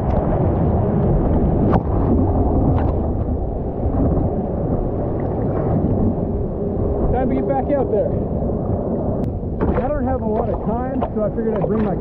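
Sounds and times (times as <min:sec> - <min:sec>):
surf water rushing: 0:00.0 - 0:12.0
wind buffeting microphone: 0:00.0 - 0:12.0.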